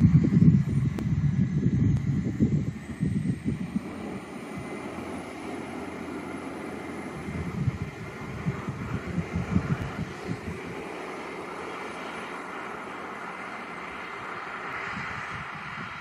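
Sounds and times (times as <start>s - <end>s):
diesel engine drone: 0.0s - 16.0s
faint high whine: 0.0s - 16.0s
wind noise on microphone: 0.0s - 16.0s.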